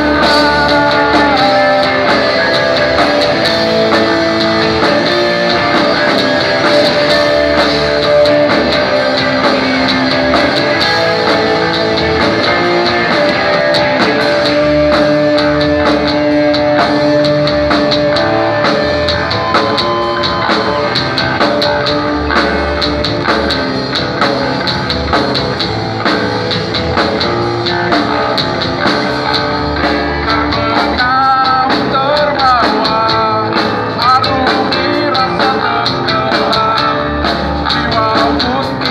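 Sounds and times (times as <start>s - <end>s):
live grunge band playing: 0.0s - 38.9s.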